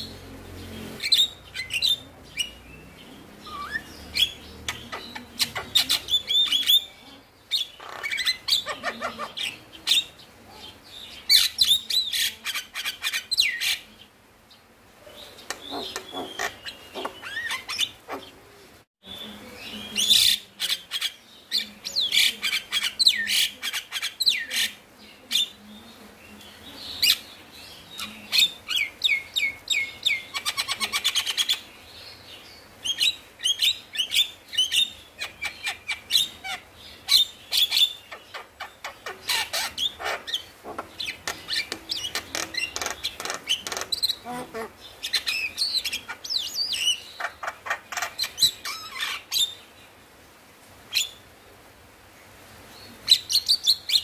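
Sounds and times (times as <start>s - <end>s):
myna bird singing: 0.0s - 50.0s, 50.9s - 51.5s, 52.6s - 54.0s.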